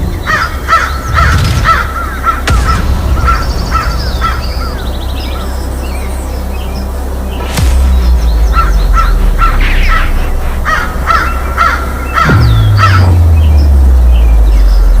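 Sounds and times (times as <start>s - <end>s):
bird calls: 0.0s - 15.0s
steady low hum: 0.0s - 15.0s.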